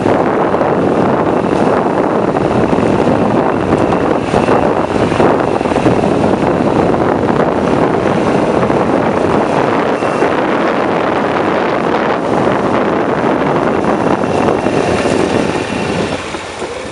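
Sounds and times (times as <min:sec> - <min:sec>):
atv engine running: 0:00.0 - 0:16.9
wind rushing over microphone: 0:00.0 - 0:16.9.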